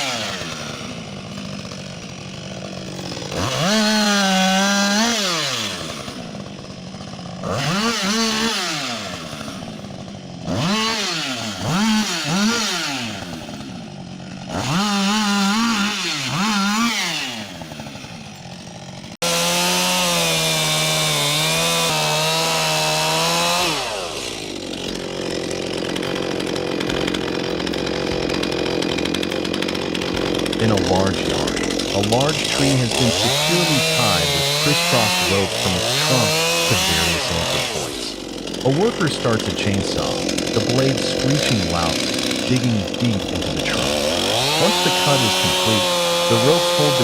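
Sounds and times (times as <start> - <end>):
chainsaw engine revving: 0.0 - 47.0.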